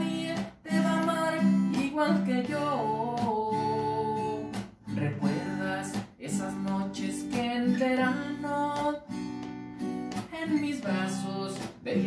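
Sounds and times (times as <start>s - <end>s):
acoustic guitar strummed: 0.0s - 12.0s
man singing: 0.7s - 8.8s, 10.4s - 12.0s.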